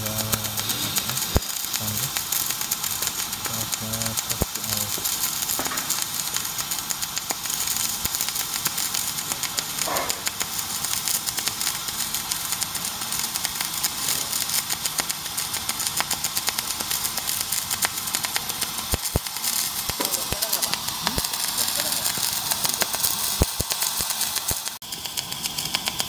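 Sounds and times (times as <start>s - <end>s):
welding arc crackling hiss: 0.0s - 26.0s.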